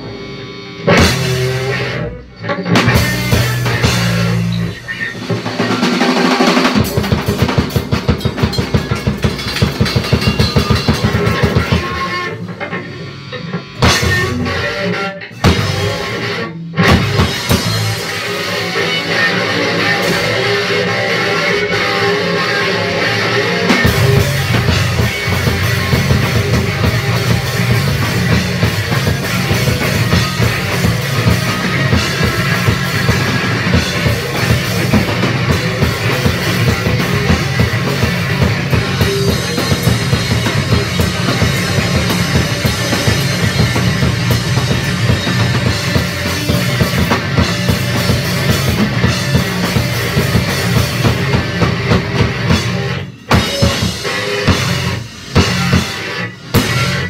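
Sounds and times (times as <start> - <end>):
drum kit: 0.0 - 57.0
electric guitar: 0.0 - 57.0
live rock band: 0.0 - 57.0.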